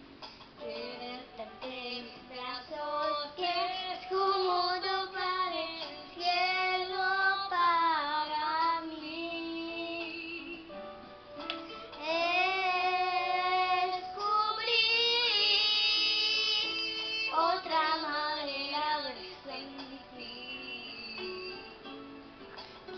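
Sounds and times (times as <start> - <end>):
girl singing: 0.6 - 10.7, 12.0 - 21.6.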